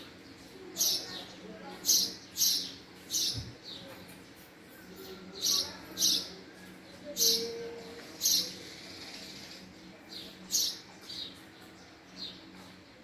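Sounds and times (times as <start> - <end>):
sparrow chirping: 0.1 - 12.7.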